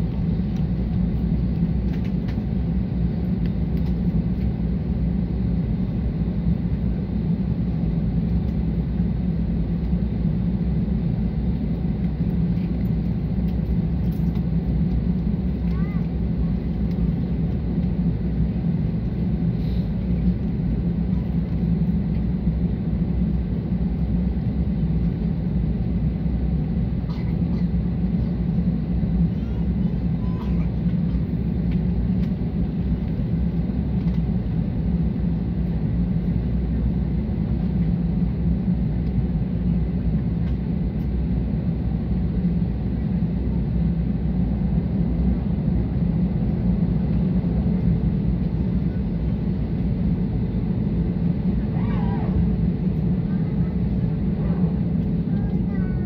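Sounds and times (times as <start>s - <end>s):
low rumble inside aircraft cabin: 0.0s - 56.0s.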